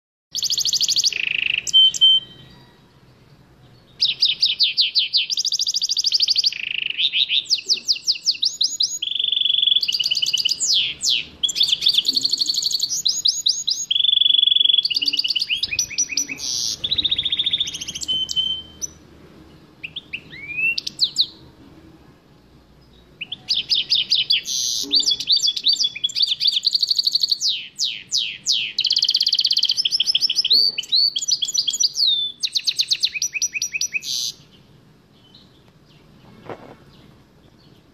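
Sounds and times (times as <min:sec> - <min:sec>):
songbird singing trills: 0:00.3 - 0:21.5, 0:22.7 - 0:37.9.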